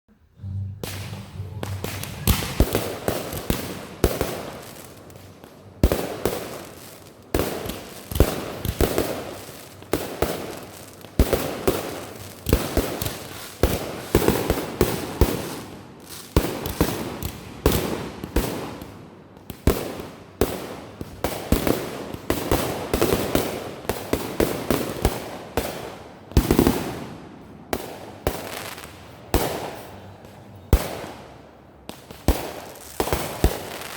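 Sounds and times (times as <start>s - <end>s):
fireworks bangs: 0.4s - 33.9s
fireworks crackling: 0.7s - 33.9s.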